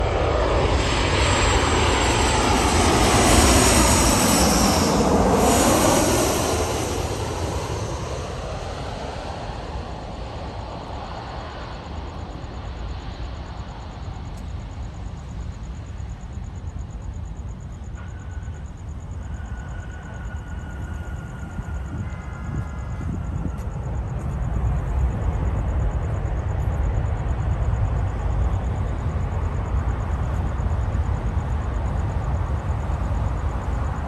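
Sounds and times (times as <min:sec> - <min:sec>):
jet passing overhead: 0:00.0 - 0:34.0.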